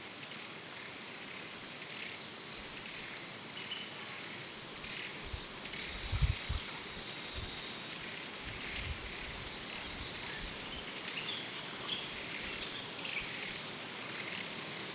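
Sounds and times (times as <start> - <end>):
high-pitched insect chorus: 0.0 - 14.9.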